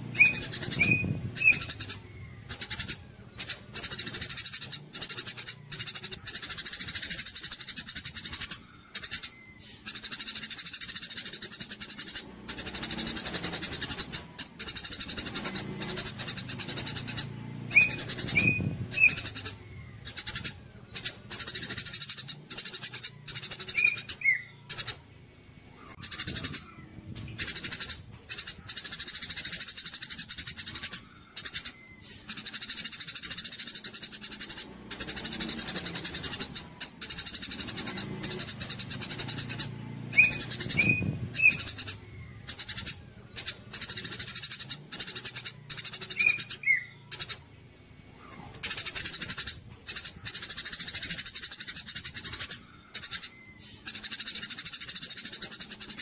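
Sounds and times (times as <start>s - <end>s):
low bird chirps: 0.0s - 56.0s
songbird trilling: 0.0s - 56.0s.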